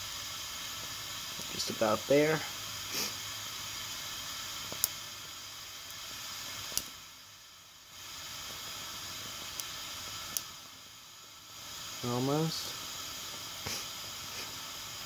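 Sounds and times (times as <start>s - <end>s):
steam boiler hissing: 0.0s - 15.0s.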